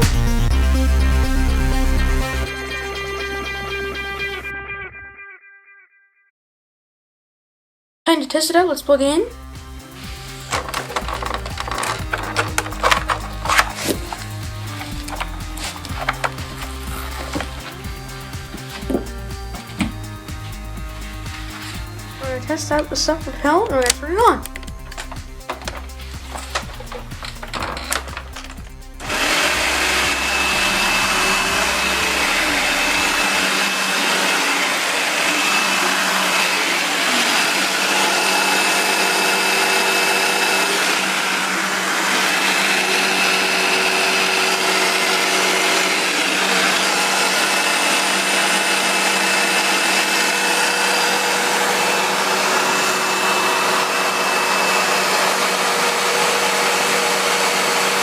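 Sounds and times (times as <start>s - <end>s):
vacuum cleaner motor whining: 9.9s - 58.0s.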